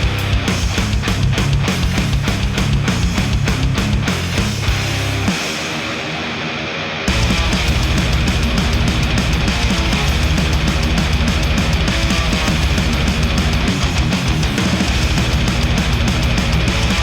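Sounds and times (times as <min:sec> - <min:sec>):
heavy rock music: 0:00.0 - 0:17.0.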